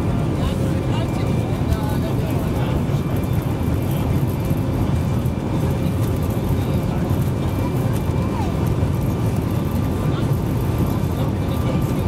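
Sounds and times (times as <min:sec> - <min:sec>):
jet engines and wheel rumble: 0:00.0 - 0:12.0.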